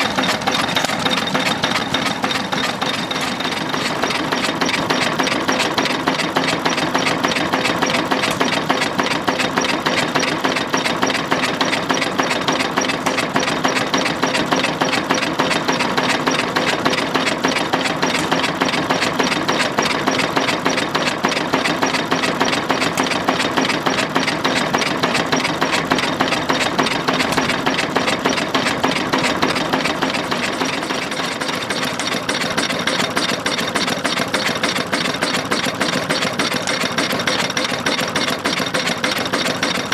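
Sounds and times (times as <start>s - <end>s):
diesel engine running: 0.0s - 39.9s
valve gear clattering: 0.0s - 39.9s.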